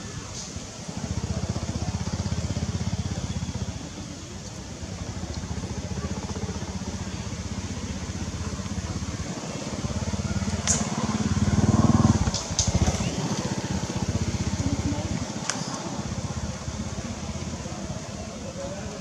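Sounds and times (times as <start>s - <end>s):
small engine running: 0.6s - 19.0s.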